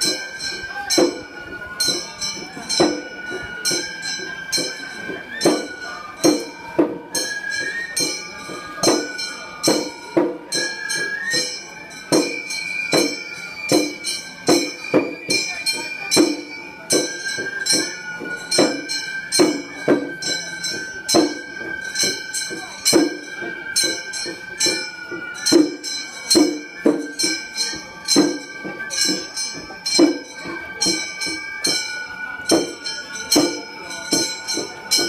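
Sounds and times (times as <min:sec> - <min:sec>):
bamboo flute long high notes: 0:00.0 - 0:35.0
hand gongs struck in steady beat: 0:00.0 - 0:35.0.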